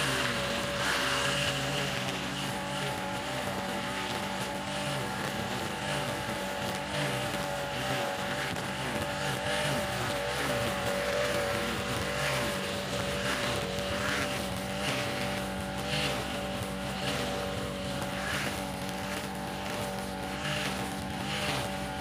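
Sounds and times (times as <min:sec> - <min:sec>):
brush cutter engine running: 0:00.0 - 0:22.0
nylon line cutting grass: 0:00.0 - 0:22.0.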